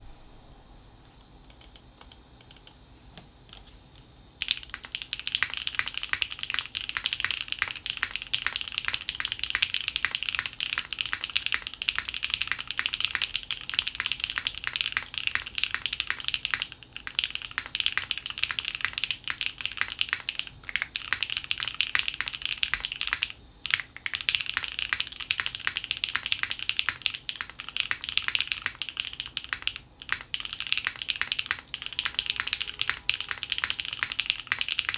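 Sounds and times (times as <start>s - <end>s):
mechanical keyboard typing: 1.5s - 2.8s, 4.4s - 34.9s.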